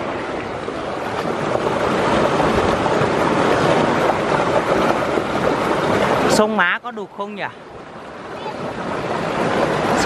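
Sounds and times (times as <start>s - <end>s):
mountain stream rushing: 0.0s - 10.0s.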